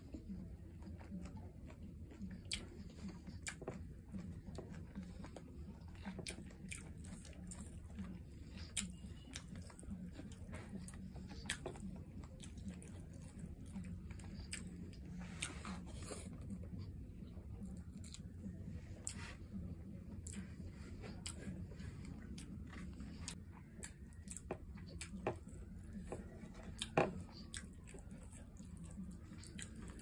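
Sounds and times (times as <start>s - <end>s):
close chewing of food: 0.0s - 30.0s.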